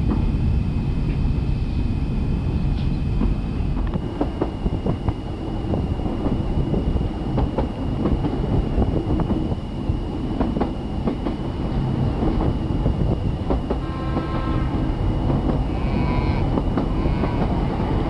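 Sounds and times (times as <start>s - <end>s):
thin high whine: 0.0s - 18.0s
train rumbling on track: 0.0s - 18.0s.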